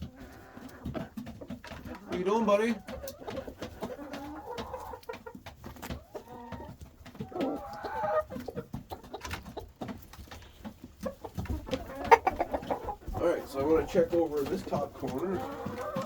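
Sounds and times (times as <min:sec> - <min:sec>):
chicken wavering calls: 0:00.0 - 0:16.0
chickens clucking: 0:00.0 - 0:16.0.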